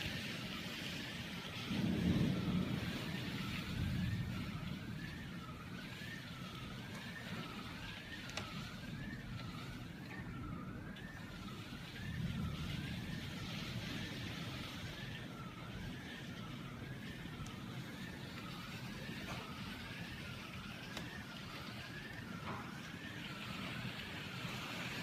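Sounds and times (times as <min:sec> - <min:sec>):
emergency siren wailing: 0:00.0 - 0:25.0
heavy rain pouring: 0:00.0 - 0:25.0.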